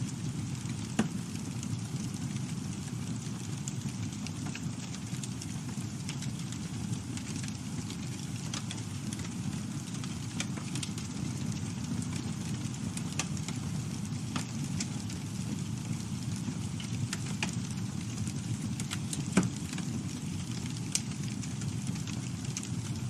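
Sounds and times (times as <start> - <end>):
burning wood crackling and popping: 0.0 - 23.0
low rumble of flames: 0.0 - 23.0.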